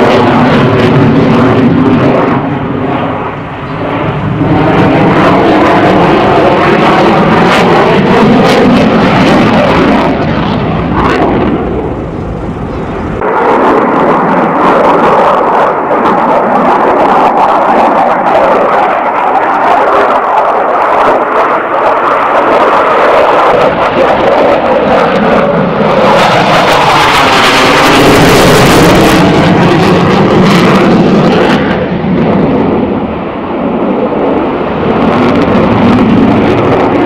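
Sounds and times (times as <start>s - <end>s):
jet flying past: 0.0s - 37.0s.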